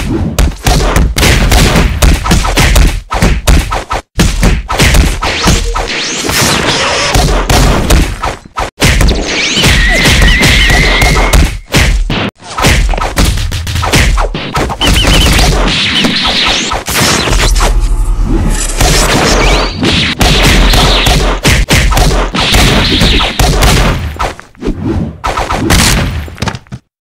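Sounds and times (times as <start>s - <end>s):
punch and kick impacts: 0.0s - 10.2s, 11.0s - 17.8s, 18.7s - 24.4s, 25.3s - 26.8s.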